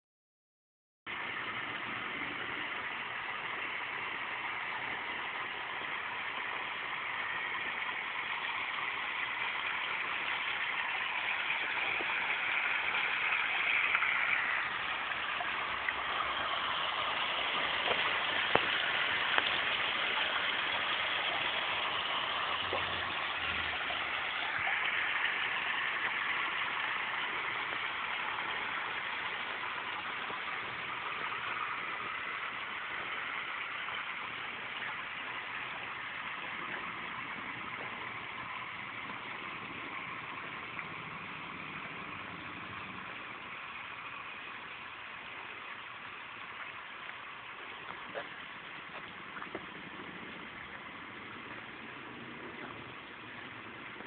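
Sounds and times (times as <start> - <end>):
water splashing onto rocks: 3.6 - 44.0, 44.6 - 54.0.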